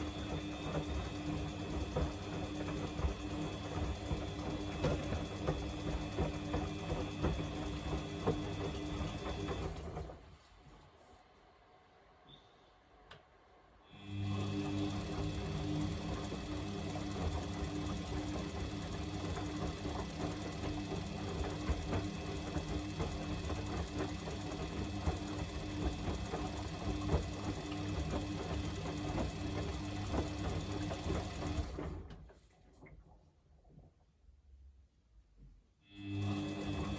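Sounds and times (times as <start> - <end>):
washing machine motor hum: 0.0 - 10.8, 13.9 - 32.5, 35.9 - 36.9.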